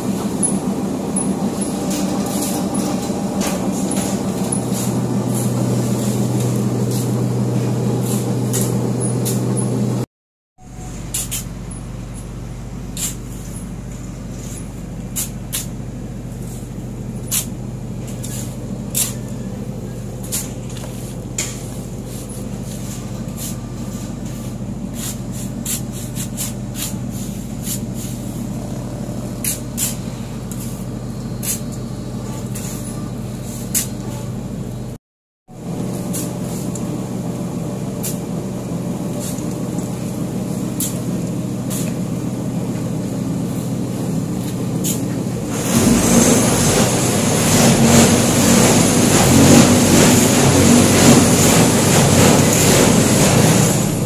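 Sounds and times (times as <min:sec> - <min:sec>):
machinery hum: 0:00.0 - 0:35.0, 0:35.6 - 0:54.0.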